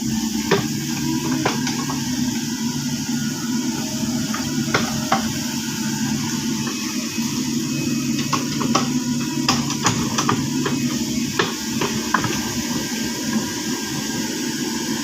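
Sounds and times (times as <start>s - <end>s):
excavator diesel engine under load: 0.0s - 15.0s.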